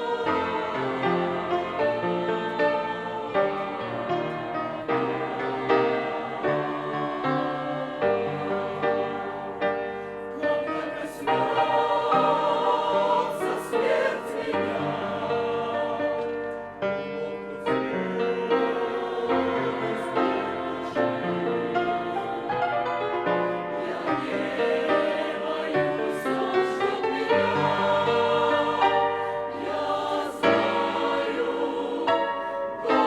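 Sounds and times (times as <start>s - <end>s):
church choir singing a hymn: 0.0s - 33.0s.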